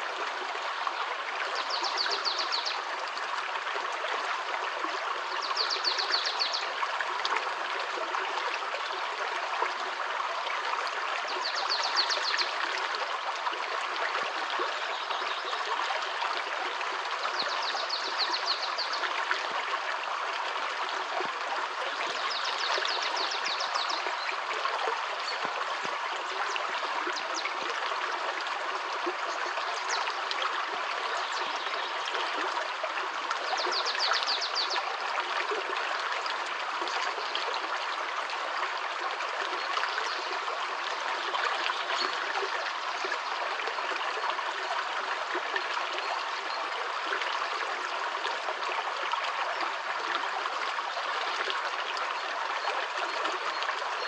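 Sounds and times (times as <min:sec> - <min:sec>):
stony stream flowing: 0:00.0 - 0:54.0.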